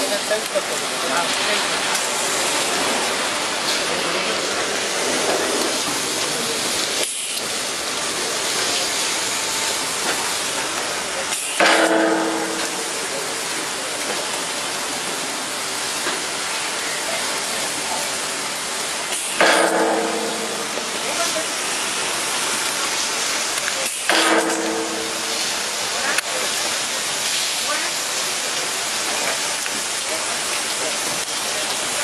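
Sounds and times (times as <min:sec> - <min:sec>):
water jets spraying: 0:00.0 - 0:32.0.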